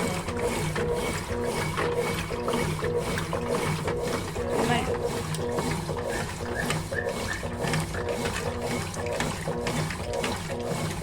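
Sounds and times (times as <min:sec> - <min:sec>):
washing machine motor hum: 0:00.0 - 0:11.0
water churning and sloshing: 0:00.0 - 0:11.0.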